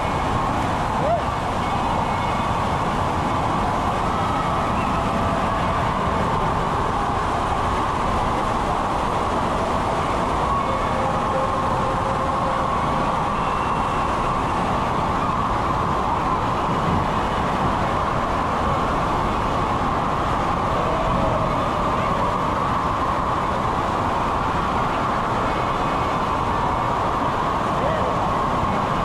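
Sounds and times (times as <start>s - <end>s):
water rushing and churning: 0.0s - 29.0s.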